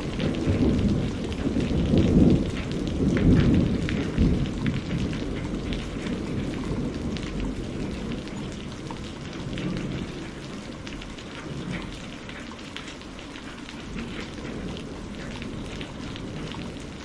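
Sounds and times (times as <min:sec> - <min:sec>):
rolling thunder rumble: 0:00.0 - 0:12.5, 0:13.5 - 0:17.0
heavy rain pattering: 0:00.0 - 0:17.0.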